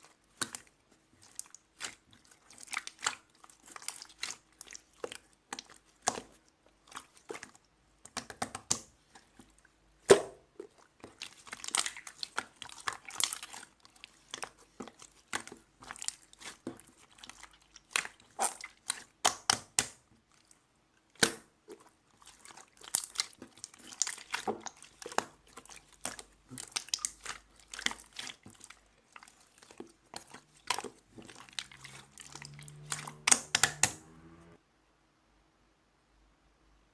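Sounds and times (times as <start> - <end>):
slime squishing wet clicks: 0.0 - 34.1.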